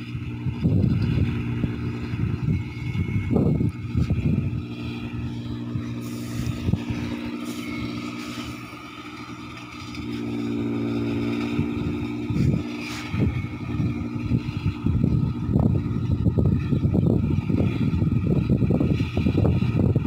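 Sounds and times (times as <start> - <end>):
combine harvester engine humming: 0.0 - 20.0.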